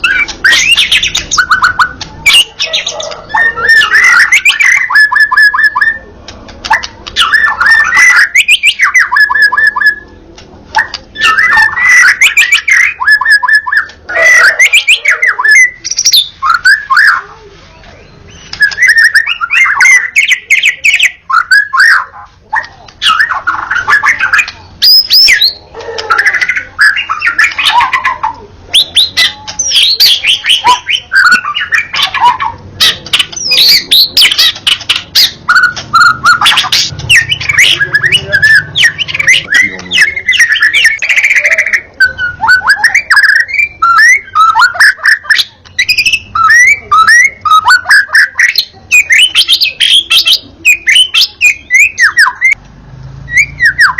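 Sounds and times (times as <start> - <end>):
songbird singing whistles: 0.0 - 52.6, 53.3 - 53.9.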